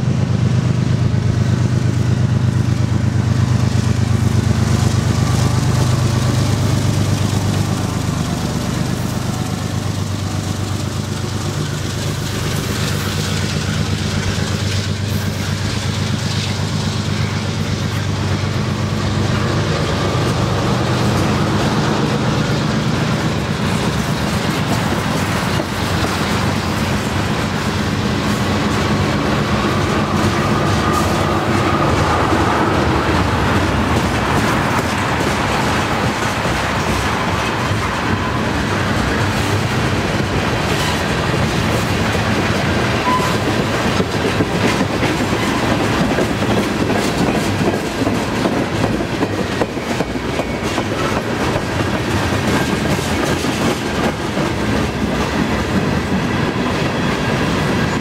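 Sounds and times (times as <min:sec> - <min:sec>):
diesel locomotive engine: 0:00.0 - 0:58.0
train wheels clacking over rails: 0:00.0 - 0:58.0.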